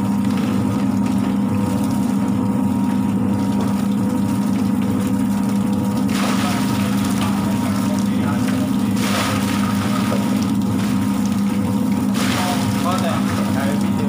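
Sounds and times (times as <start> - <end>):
chicken plucker motor humming: 0.0 - 14.0.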